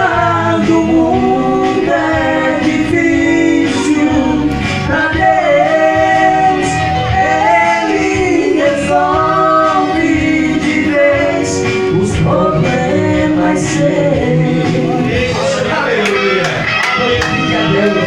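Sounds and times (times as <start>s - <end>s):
gospel singing: 0.0s - 18.0s
instrumental backing: 0.0s - 18.0s.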